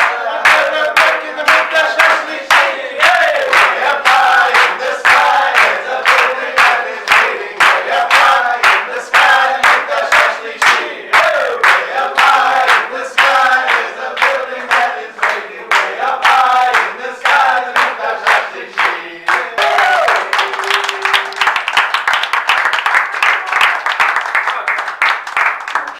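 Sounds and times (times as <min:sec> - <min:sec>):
group singing together: 0:00.0 - 0:21.7
applause: 0:00.0 - 0:25.9
rhythmic hand clapping: 0:00.0 - 0:25.9.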